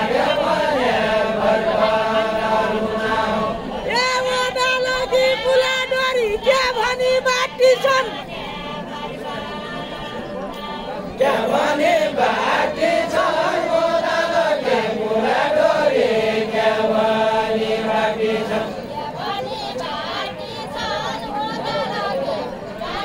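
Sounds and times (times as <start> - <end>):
faint crowd chatter: 0.0 - 23.0
woman singing unaccompanied: 0.0 - 23.0.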